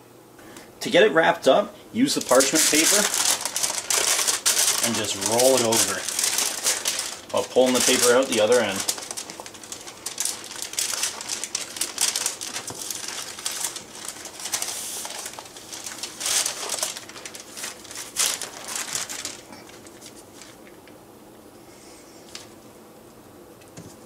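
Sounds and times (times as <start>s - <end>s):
parchment paper crinkling: 2.0s - 21.0s, 22.2s - 22.6s.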